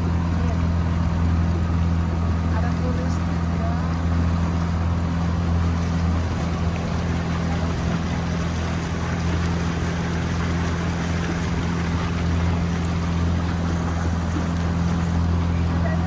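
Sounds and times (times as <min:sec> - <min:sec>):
motorboat engine humming: 0:00.0 - 0:16.0
rushing water: 0:00.0 - 0:16.0.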